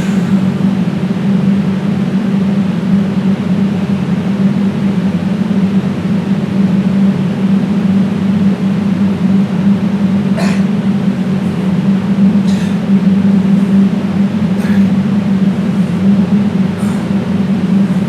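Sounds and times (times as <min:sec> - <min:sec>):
loud low hum: 0:00.0 - 0:18.0.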